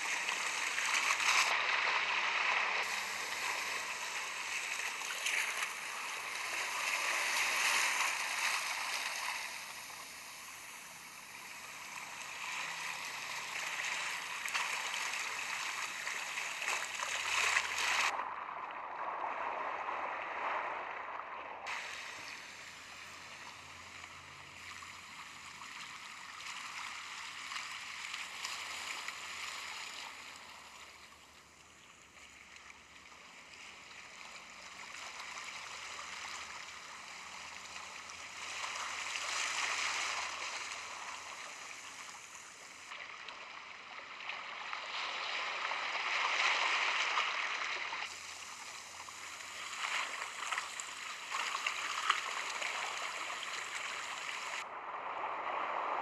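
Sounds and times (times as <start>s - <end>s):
stream rushing and gurgling: 0.0s - 18.2s, 21.6s - 31.0s, 34.5s - 43.2s, 44.6s - 56.0s.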